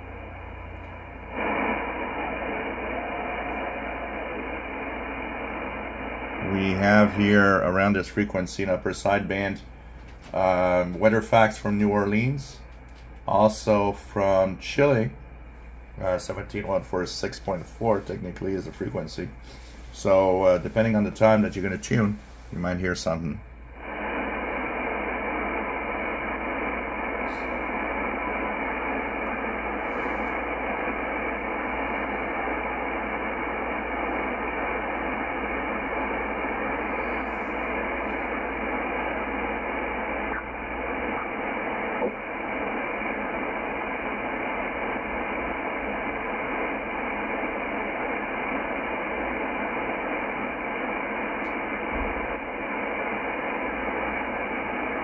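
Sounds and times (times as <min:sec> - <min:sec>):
shortwave radio static hiss: 0:00.0 - 0:55.0.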